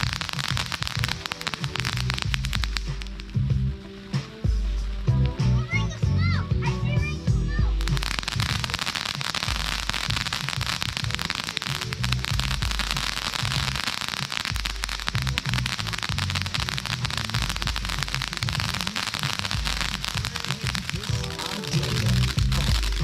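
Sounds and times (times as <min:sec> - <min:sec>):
firework crackling hiss: 0:00.0 - 0:05.9, 0:07.6 - 0:23.0.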